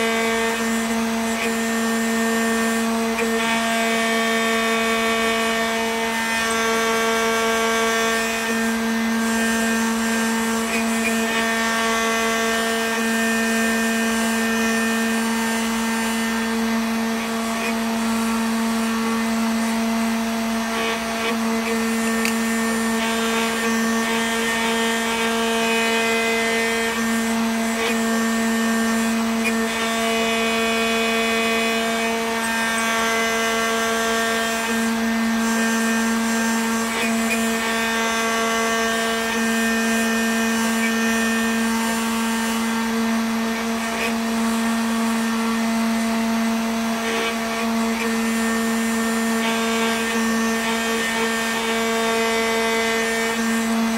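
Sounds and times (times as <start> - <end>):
router spindle humming: 0.0 - 53.9.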